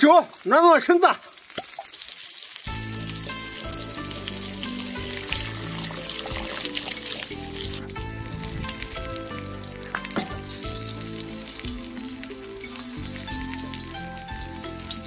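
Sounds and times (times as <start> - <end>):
meat sizzling on griddle: 0.0 - 15.0
background music with held notes: 2.7 - 15.0.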